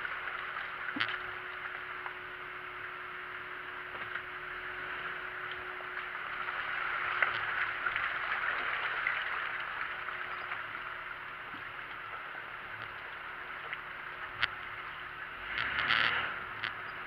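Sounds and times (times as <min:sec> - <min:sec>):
engine and tyre noise: 0:00.0 - 0:17.0
faint low hum: 0:00.0 - 0:17.0.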